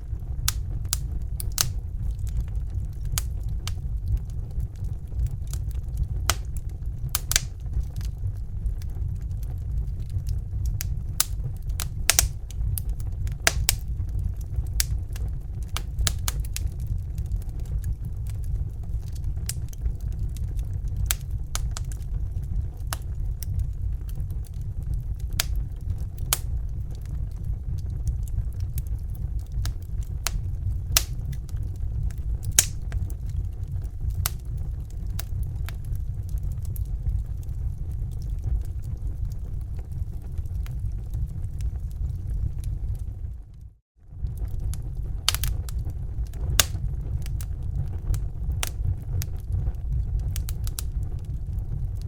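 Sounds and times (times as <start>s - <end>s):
fire crackling and popping: 0.0s - 52.0s
steady low rumble: 0.0s - 52.0s.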